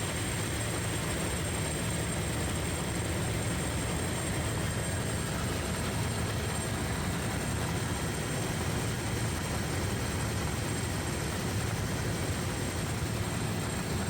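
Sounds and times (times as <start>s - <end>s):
helicopter rotor rumble: 0.0s - 14.0s
high turbine whine: 0.0s - 14.0s.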